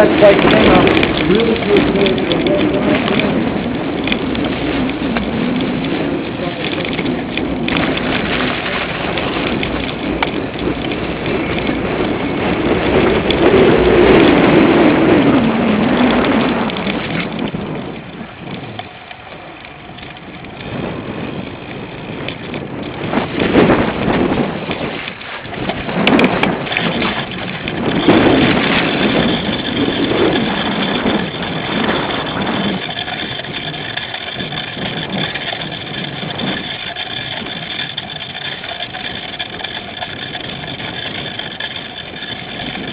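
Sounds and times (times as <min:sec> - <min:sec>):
bike rattling over rough ground: 0:00.0 - 0:42.9
wind buffeting microphone: 0:00.0 - 0:42.9.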